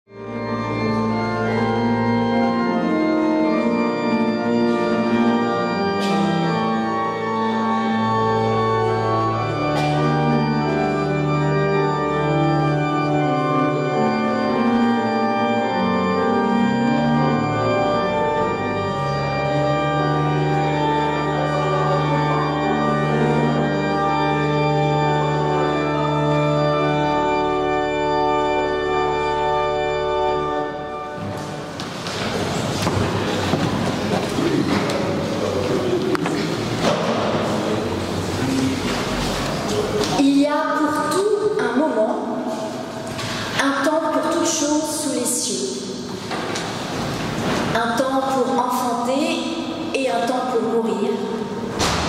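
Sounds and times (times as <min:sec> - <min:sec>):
church organ playing chords: 0:00.1 - 0:52.0.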